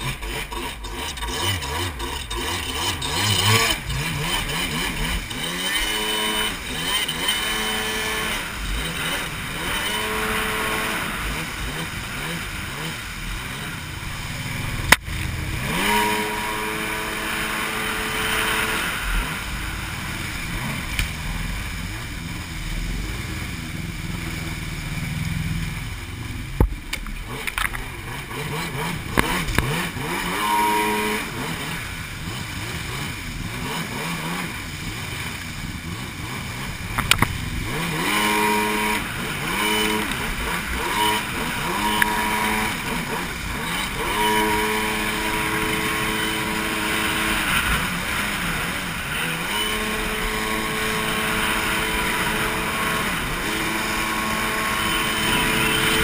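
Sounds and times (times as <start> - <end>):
jet ski engine revving: 0.0 - 56.0
water spray rushing: 0.0 - 56.0.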